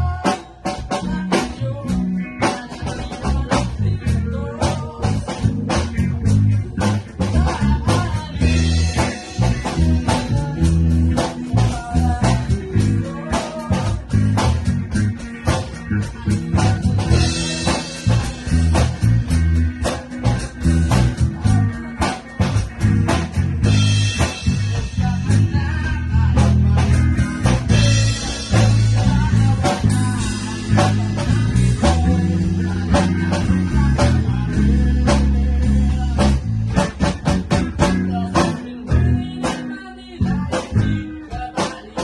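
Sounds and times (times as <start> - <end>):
band playing: 0.0 - 42.0
guitar: 0.0 - 42.0.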